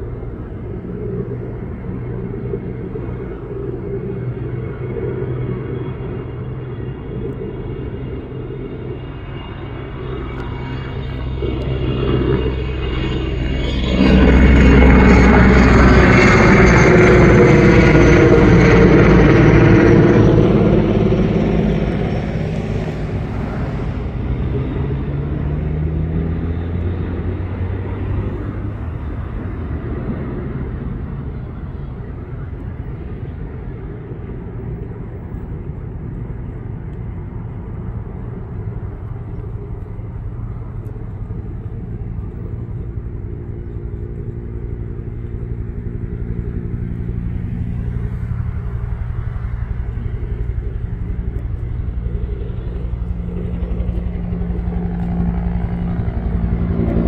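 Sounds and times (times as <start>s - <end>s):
helicopter passing overhead: 0.0s - 57.0s
low engine rumble: 0.0s - 57.0s.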